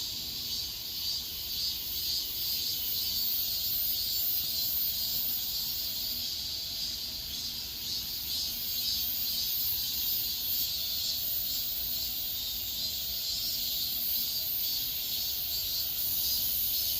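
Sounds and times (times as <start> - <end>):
insects chorus: 0.0 - 16.9.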